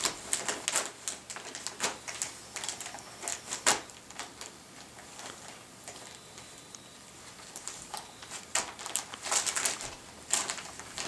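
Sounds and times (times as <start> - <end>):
wrapping paper crinkling: 0.0 - 6.5, 7.2 - 11.0.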